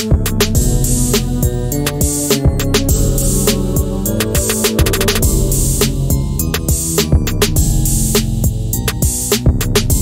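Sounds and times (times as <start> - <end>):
music with drum-machine beat: 0.0 - 10.0.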